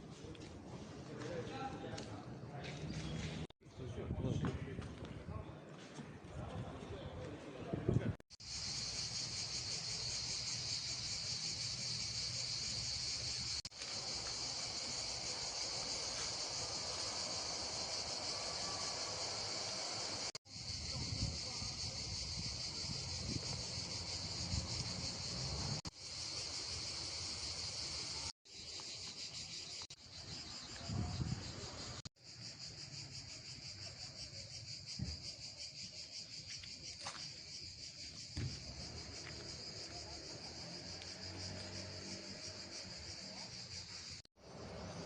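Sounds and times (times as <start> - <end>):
crickets chirping: 8.3 - 45.0.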